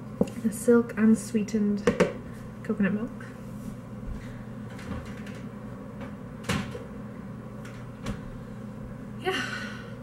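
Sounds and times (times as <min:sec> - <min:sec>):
refrigerator hum: 0:00.0 - 0:10.0.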